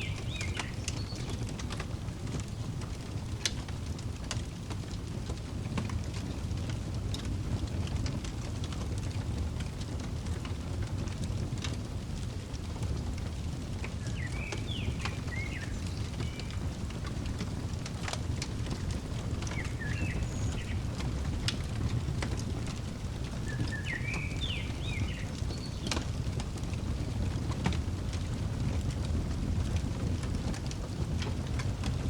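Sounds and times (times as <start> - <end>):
low steady rumble: 0.0 - 32.0
wood fire crackling: 0.0 - 32.0.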